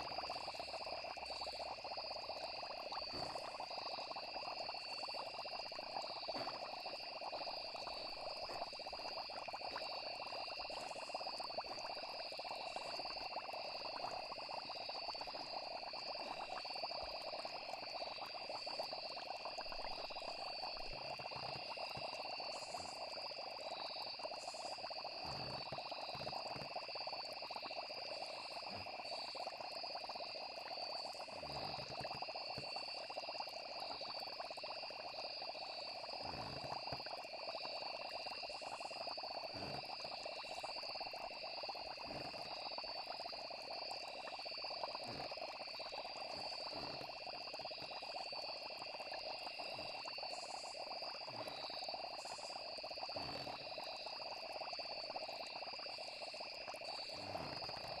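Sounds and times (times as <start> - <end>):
frog chorus: 0.0 - 58.0.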